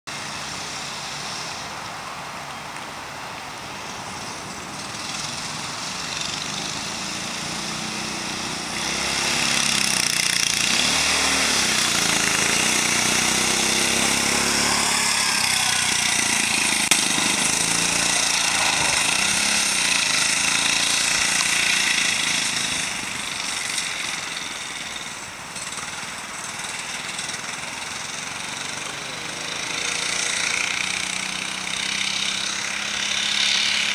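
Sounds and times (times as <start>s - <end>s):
go-kart engine revving: 4.2s - 33.9s.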